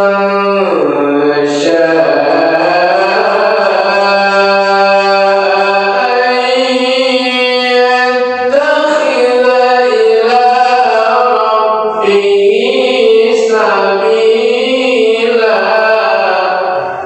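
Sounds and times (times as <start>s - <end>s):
man reciting melodiously: 0.0s - 17.0s.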